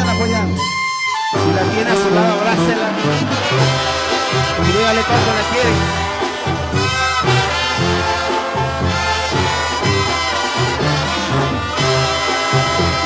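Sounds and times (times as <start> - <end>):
sousaphone bass notes: 0.0 - 13.0
trumpets and trombones: 0.0 - 13.0.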